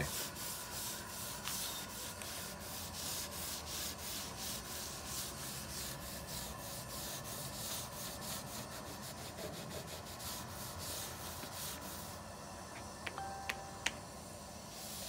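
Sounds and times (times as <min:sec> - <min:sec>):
sponge scrubbing wet wood: 0:00.0 - 0:12.2.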